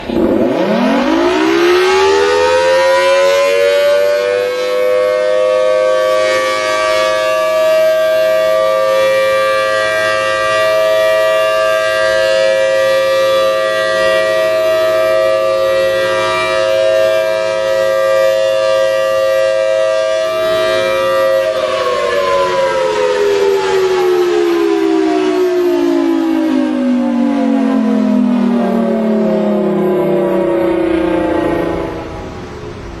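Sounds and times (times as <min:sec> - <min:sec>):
civil defense siren wailing: 0:00.0 - 0:33.0.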